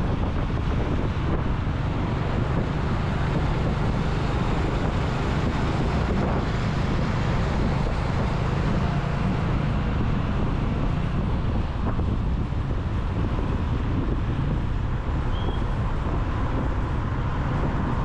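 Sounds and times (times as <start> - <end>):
road and traffic noise: 0.0 - 18.0
wind rumble on microphone: 0.0 - 18.0.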